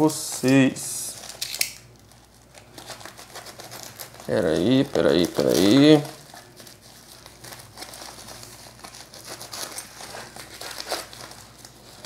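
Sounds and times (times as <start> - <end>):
plastic wrapping crinkling: 0.3 - 12.0.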